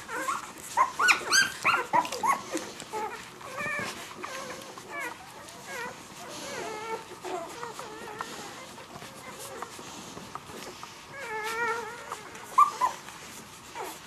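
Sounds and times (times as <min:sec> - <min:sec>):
puppies squeaking and whimpering: 0:00.0 - 0:14.0.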